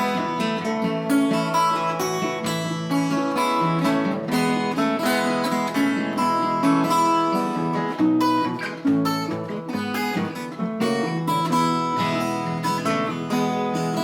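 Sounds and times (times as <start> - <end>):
acoustic guitar picking and strumming: 0.0 - 14.0.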